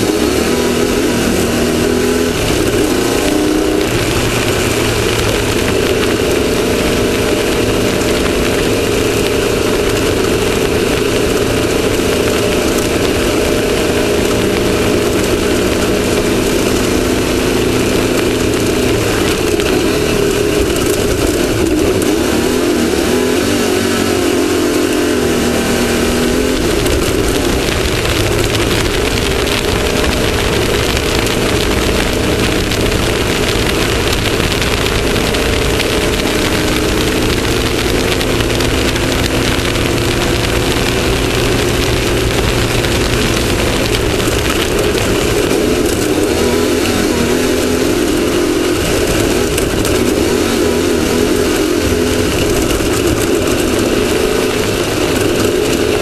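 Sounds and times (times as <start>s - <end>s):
race vehicle engine revving: 0.0s - 56.0s
wind and terrain noise: 0.0s - 56.0s.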